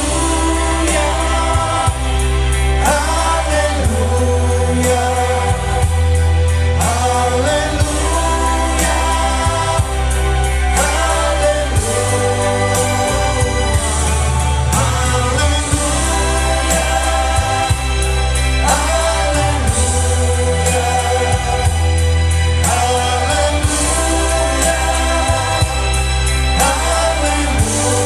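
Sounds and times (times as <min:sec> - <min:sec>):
bass line: 0:00.0 - 0:28.0
electronic keyboards: 0:00.0 - 0:28.0.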